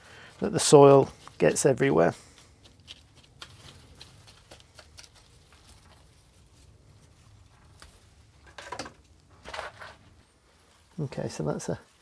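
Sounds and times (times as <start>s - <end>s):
potting soil rustling: 0.0s - 12.0s.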